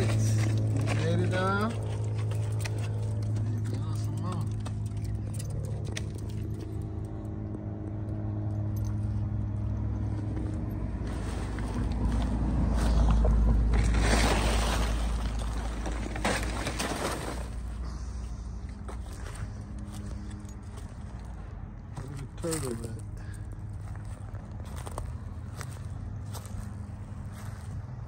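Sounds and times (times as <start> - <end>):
heavy low rumble with rustling: 0.0 - 28.0.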